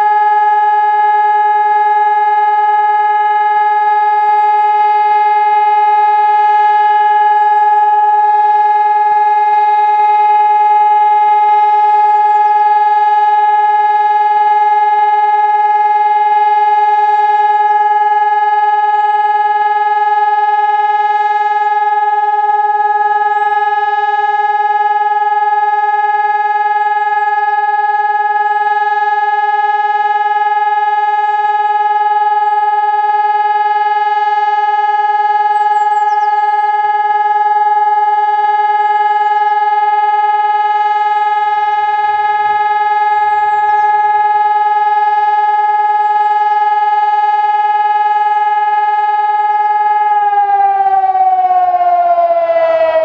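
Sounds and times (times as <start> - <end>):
siren steady tone: 0.0 - 53.0.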